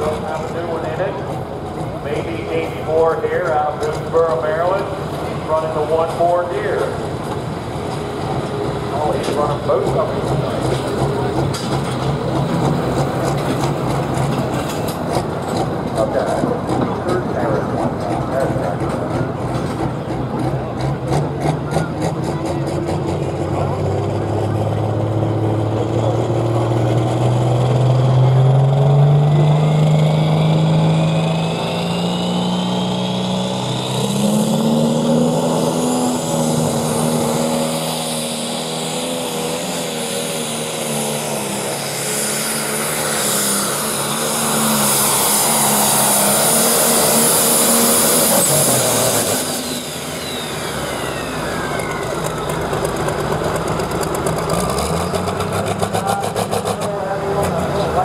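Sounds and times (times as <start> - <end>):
tractor diesel engine at full power: 0.0 - 58.0.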